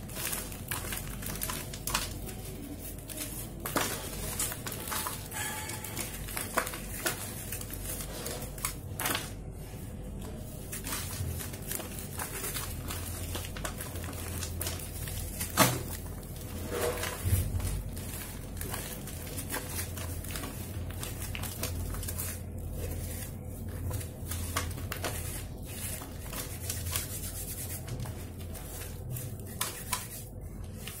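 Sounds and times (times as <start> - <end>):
low steady hum: 0.0 - 31.0
powder sifted through fingers: 0.0 - 31.0.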